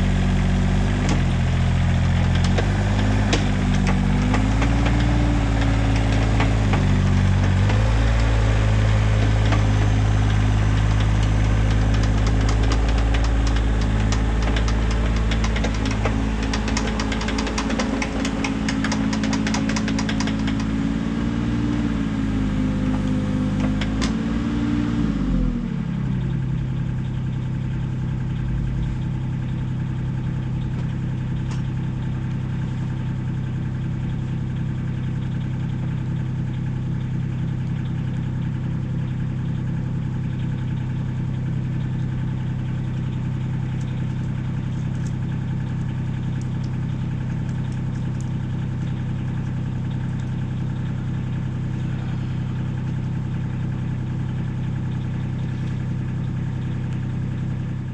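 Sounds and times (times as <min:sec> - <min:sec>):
excavator diesel engine running: 0:00.0 - 0:57.9
fast rattle: 0:02.0 - 0:20.8, 0:26.2 - 0:57.9.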